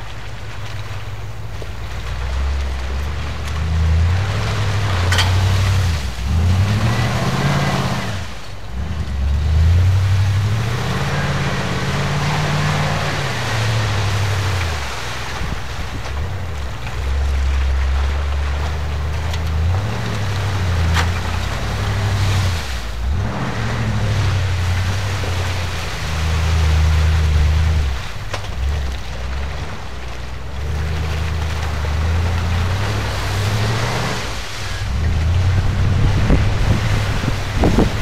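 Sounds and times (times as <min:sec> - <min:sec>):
truck churning through water: 0:00.0 - 0:38.0
engine revving: 0:01.9 - 0:38.0.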